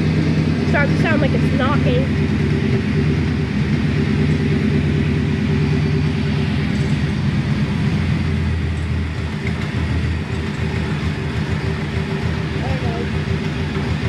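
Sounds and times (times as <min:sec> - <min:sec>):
truck engine knocking and surging: 0:00.0 - 0:14.0.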